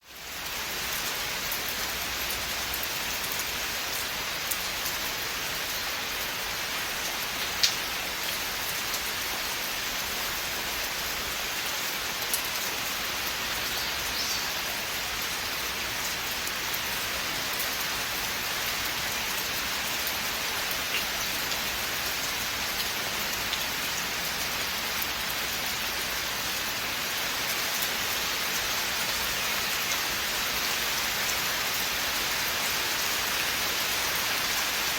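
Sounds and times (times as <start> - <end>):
rain falling in forest: 0.0 - 34.9.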